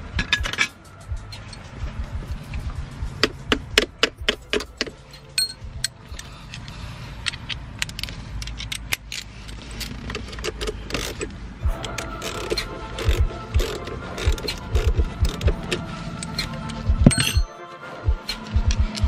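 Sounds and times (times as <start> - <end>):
hand tools clinking: 0.0 - 1.8, 3.2 - 17.5.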